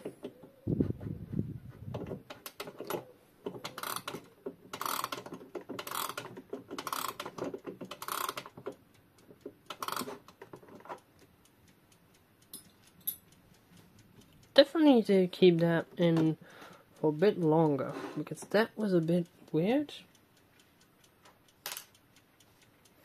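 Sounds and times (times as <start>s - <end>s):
clock winding ratchet clicks: 2.0s - 23.0s.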